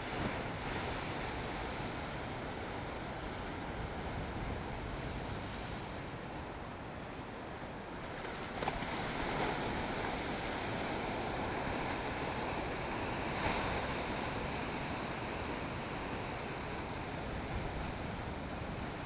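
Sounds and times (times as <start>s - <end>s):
ocean surf washing on shore: 0.0s - 19.0s.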